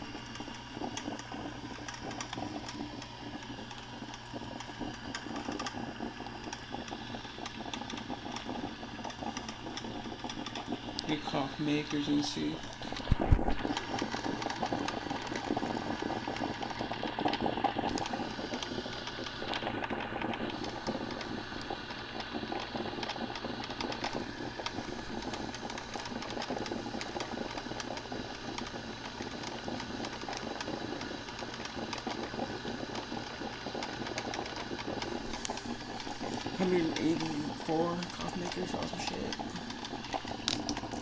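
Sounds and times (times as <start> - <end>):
coffee maker gurgling and sputtering: 0.0 - 41.0.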